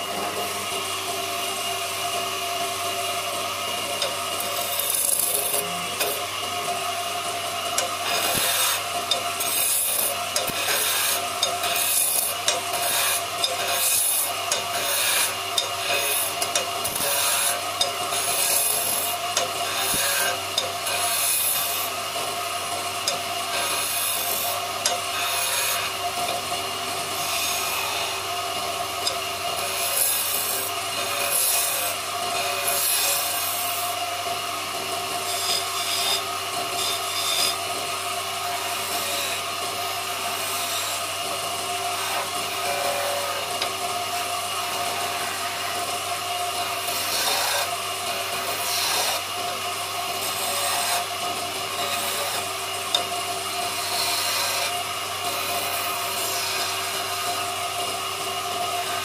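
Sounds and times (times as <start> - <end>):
lathe motor humming: 0.0 - 59.0
lathe tool shaving wood: 0.0 - 59.0.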